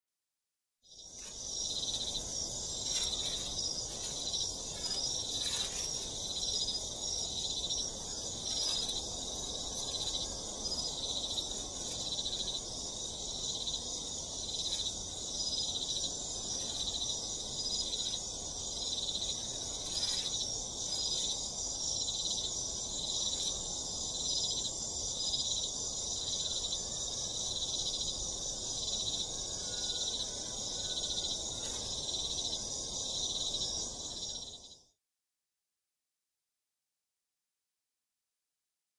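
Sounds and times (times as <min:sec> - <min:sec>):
high-pitched insect chorus: 0:00.8 - 0:34.8.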